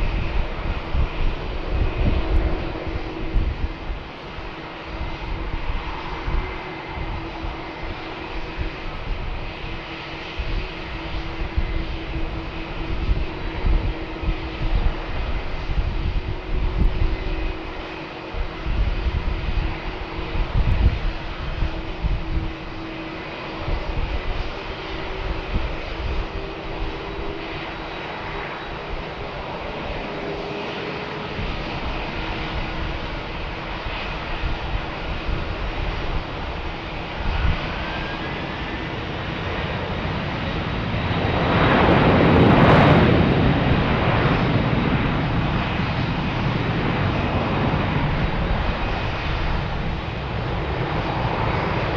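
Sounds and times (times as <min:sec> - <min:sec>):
jet engines roaring at takeoff: 0:00.0 - 0:51.9.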